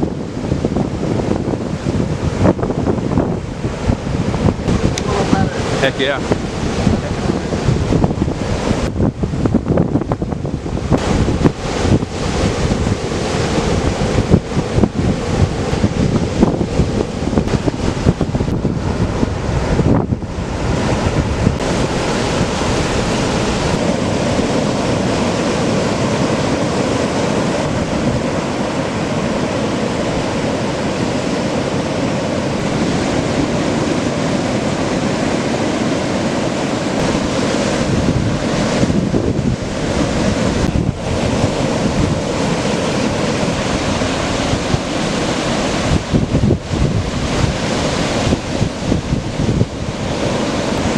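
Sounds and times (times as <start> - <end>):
heavy ocean surf: 0.0 - 50.9
wind buffeting microphone: 0.0 - 50.9.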